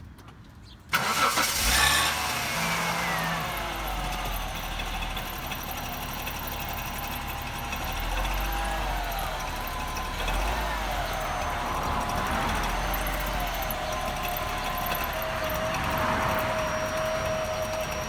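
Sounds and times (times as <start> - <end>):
car engine starting and idling: 0.9 - 18.0.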